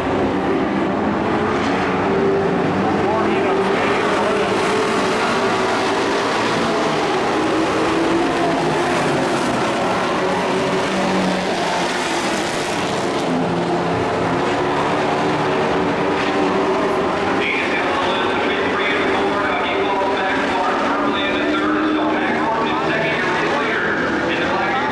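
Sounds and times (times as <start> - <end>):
racing truck engines droning: 0.0 - 24.9.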